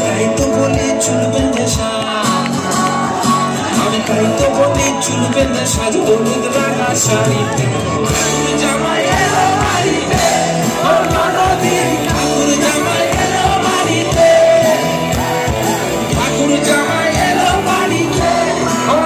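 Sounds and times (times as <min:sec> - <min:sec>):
folk-rock band playing: 0:00.0 - 0:19.0
person singing: 0:00.0 - 0:19.0.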